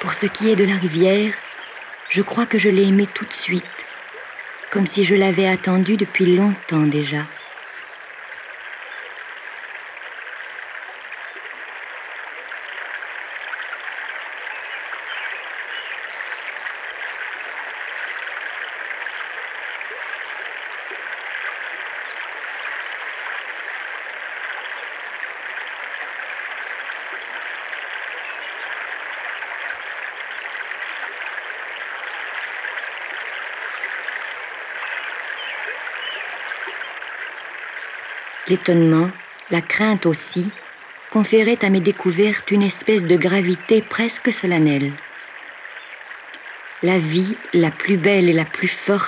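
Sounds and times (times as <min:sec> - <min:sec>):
river water flowing over rocks: 0:00.0 - 0:49.0.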